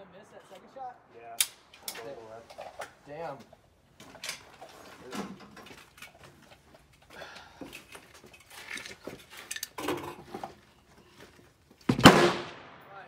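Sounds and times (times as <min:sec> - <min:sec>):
gear and rifle clinking: 0:01.4 - 0:12.1.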